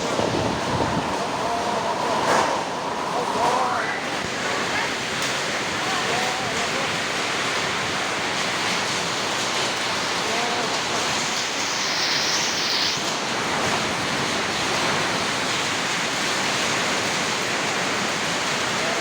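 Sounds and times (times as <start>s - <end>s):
heavy rain and hail: 0.0s - 19.0s
strong wind: 0.0s - 19.0s.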